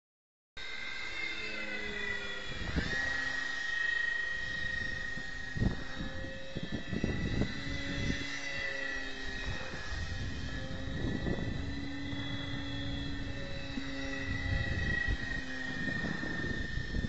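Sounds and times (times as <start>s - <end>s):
low rumbling buffets: 0.6s - 17.0s
model plane motor whine: 0.6s - 17.0s.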